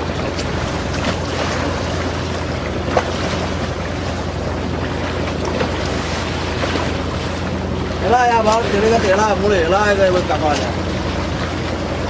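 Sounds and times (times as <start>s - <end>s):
boat engine running: 0.0s - 12.0s
sea: 0.0s - 12.0s
wind: 0.0s - 12.0s.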